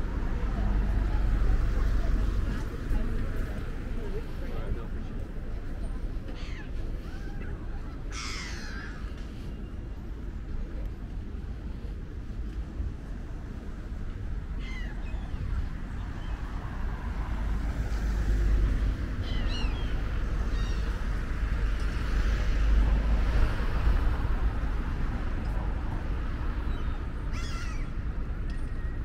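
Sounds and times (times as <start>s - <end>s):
low street rumble: 0.0s - 29.0s.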